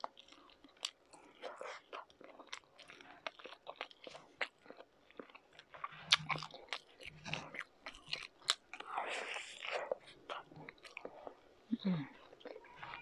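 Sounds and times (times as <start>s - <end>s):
chewing with wet mouth sounds: 0.0s - 13.0s.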